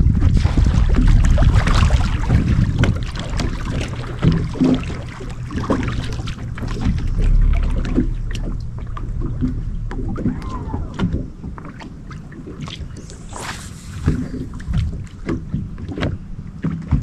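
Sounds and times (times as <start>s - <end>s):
water lapping around boat: 0.0s - 17.0s
wind buffeting microphone: 0.0s - 17.0s.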